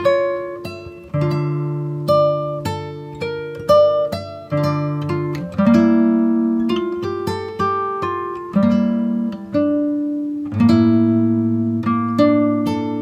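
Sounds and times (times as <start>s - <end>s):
acoustic guitar picking and strumming: 0.0s - 13.0s.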